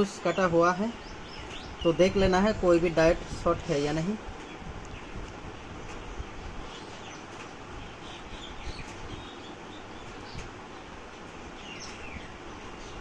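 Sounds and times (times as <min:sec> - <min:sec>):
small birds chirping: 0:00.0 - 0:13.0
steady background noise: 0:00.0 - 0:13.0.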